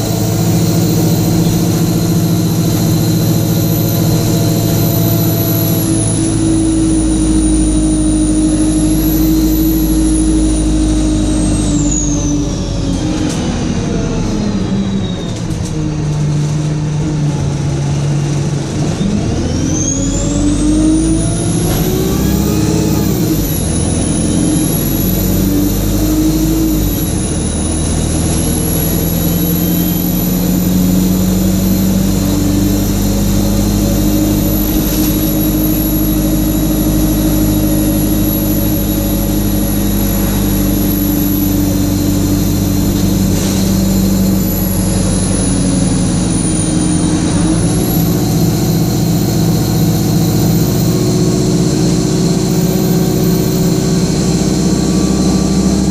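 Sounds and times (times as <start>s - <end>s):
diesel bus engine running: 0.0s - 55.9s
high-pitched turbocharger whine: 0.0s - 55.9s.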